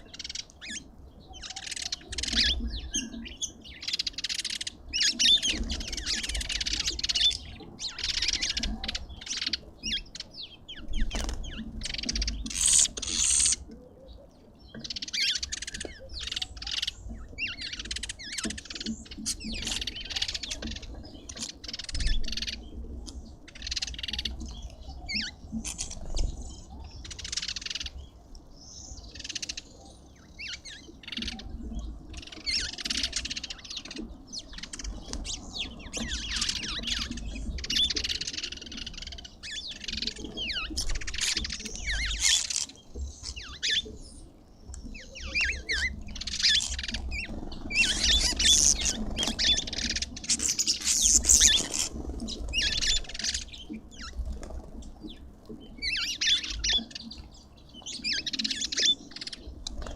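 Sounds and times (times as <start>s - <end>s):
birds chirping and chattering: 0.0s - 59.9s.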